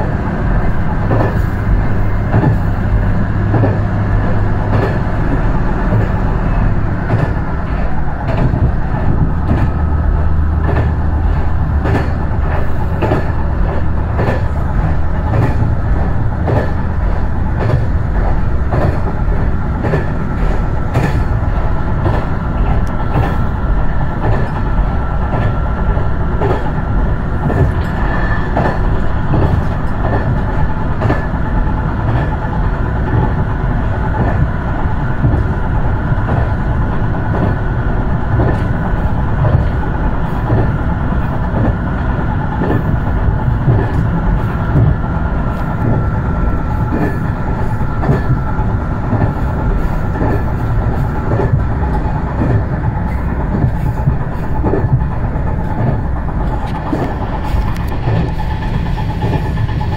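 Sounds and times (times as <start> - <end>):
low engine hum: 0.0 - 59.9
railcar running noise: 0.0 - 59.9
wheel clicks over rail joints: 0.0 - 59.9.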